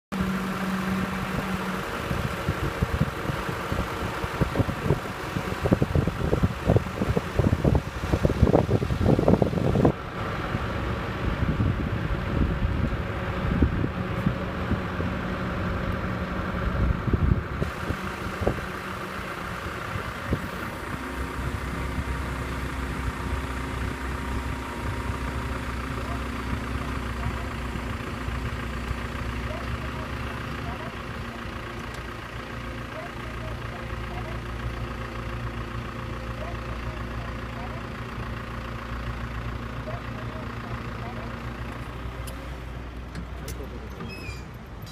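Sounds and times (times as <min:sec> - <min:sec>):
deep engine hum: 0:00.0 - 0:44.9
excavator diesel engine idling: 0:00.1 - 0:44.9.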